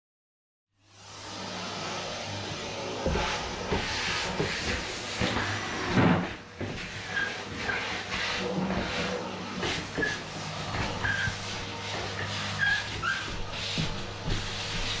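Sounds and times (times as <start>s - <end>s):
vacuum cleaner running: 0.8s - 15.0s.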